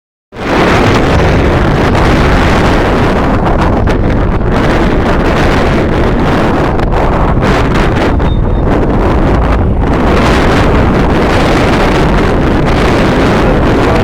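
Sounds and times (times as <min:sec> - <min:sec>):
wind rumble on microphone: 0:00.3 - 0:14.0.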